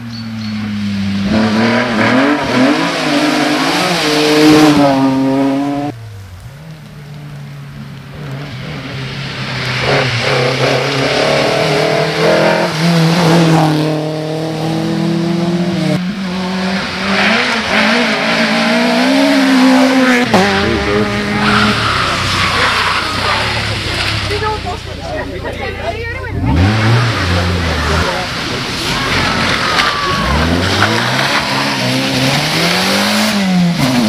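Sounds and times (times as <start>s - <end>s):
rally car engine revving: 0.1s - 34.0s.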